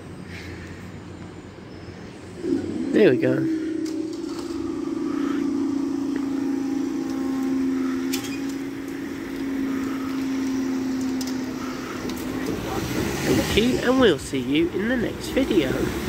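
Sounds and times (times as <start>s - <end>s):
barrier motors humming: 0.0s - 16.0s.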